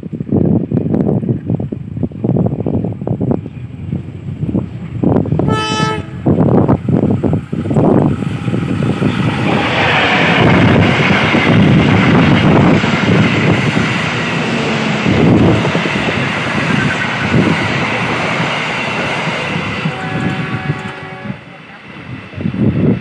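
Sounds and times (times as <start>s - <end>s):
diesel locomotive passing: 0.0s - 23.0s
train wheels rumbling on rails: 0.0s - 23.0s.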